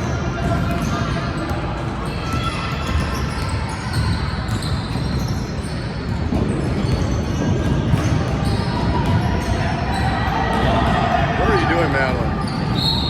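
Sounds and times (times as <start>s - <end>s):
basketball bouncing on court: 0.0s - 13.0s
players and spectators noise: 0.0s - 13.0s.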